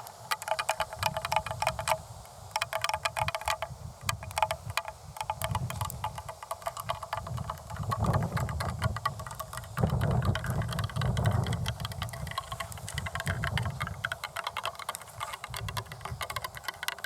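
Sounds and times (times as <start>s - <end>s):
nails scratching and tapping: 0.3s - 17.0s.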